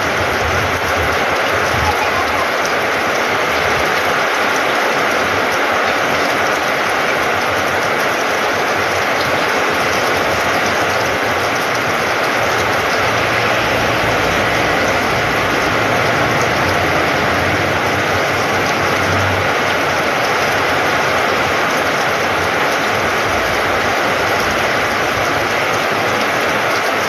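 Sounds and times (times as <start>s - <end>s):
rain on a metal roof: 0.0s - 27.0s
rain splashing into puddles: 0.0s - 27.0s.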